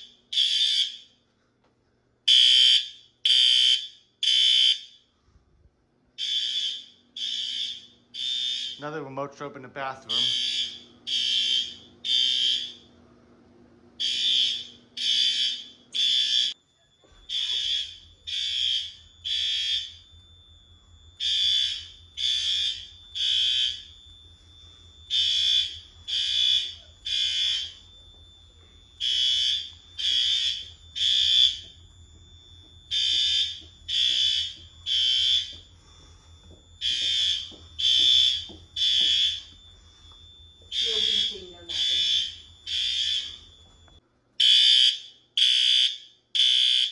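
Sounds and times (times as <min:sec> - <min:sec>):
fire alarm horn blasts: 0:00.0 - 0:01.2, 0:02.3 - 0:05.1, 0:06.2 - 0:12.9, 0:14.0 - 0:46.9.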